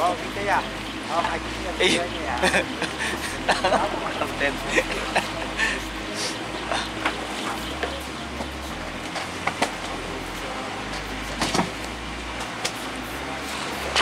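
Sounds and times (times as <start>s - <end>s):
fishing boat rumble and hiss: 0.0s - 14.0s.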